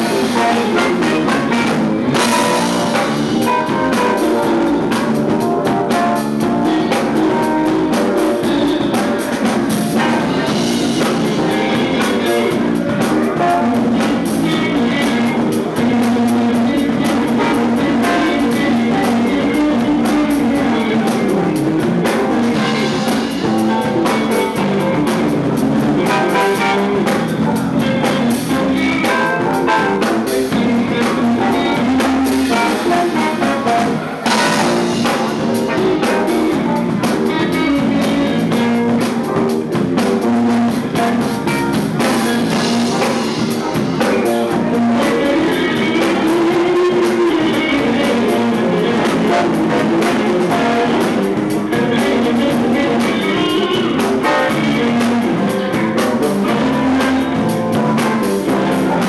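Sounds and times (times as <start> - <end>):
live band instrumental: 0.0 - 59.0.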